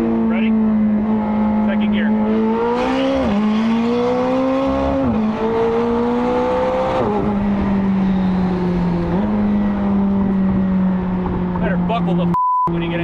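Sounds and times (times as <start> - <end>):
car engine accelerating with upshifts: 0.0 - 13.0.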